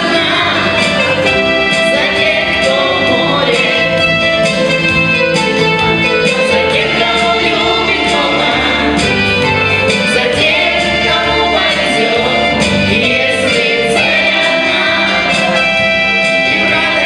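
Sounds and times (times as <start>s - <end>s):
voices singing over instruments: 0.0s - 4.4s, 6.2s - 17.0s.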